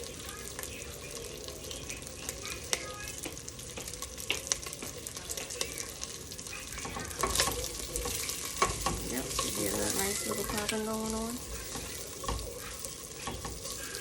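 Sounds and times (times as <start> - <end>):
sausage sizzling in a pot: 0.0 - 14.0.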